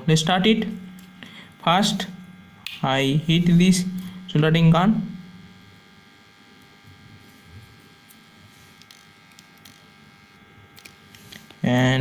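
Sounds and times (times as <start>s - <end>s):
soldering gun electrical buzz: 0.0s - 12.0s.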